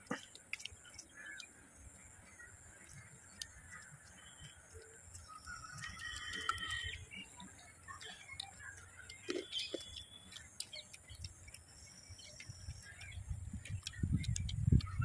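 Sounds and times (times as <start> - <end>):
birds calling: 0.0 - 15.0
chewing crispy fried chicken: 0.0 - 15.0.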